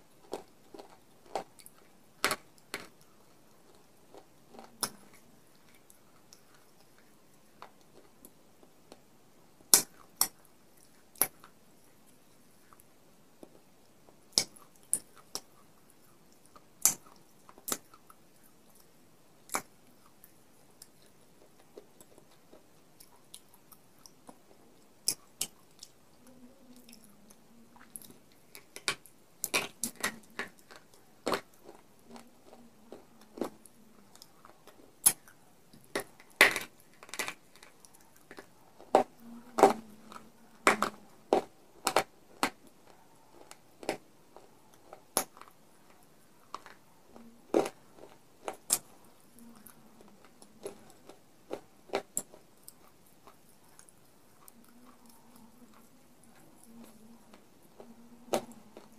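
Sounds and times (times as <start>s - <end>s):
crunching and chewing: 0.0s - 9.0s, 9.7s - 58.9s.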